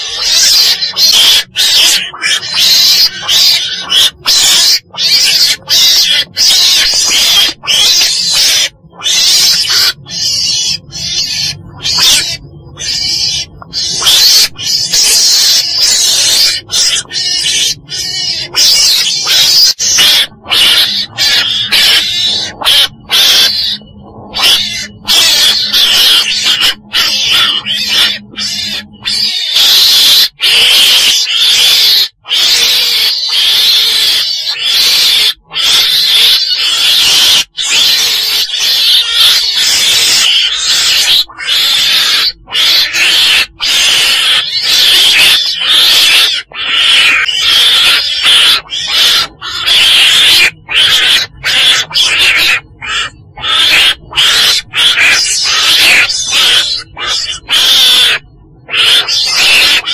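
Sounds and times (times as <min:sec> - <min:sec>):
high-pitched animal calls: 0:00.0 - 0:59.9.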